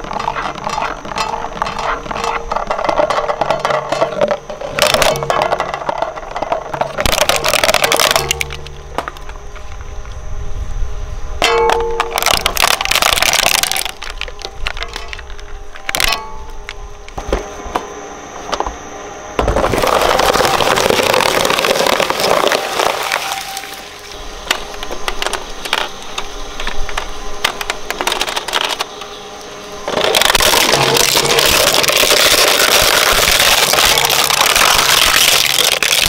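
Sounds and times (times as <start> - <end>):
shredder crunching plastic: 0.0 - 9.7, 11.4 - 16.4, 19.4 - 28.9, 29.8 - 36.0.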